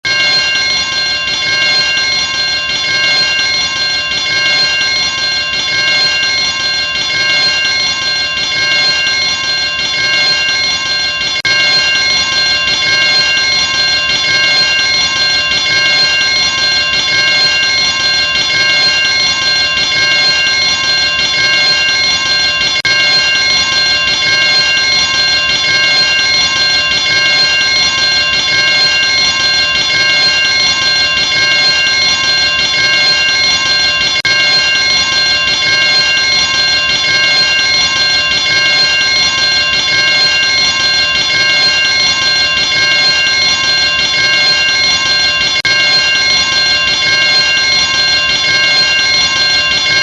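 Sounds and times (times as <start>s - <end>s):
fire alarm bell ringing: 0.0s - 50.0s.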